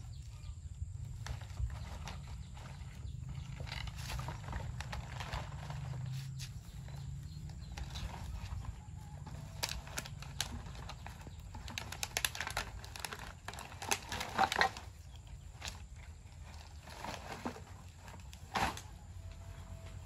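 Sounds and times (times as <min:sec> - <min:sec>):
low steady hum: 0:00.0 - 0:20.0
plastic sack rustling and crackling: 0:01.1 - 0:20.0.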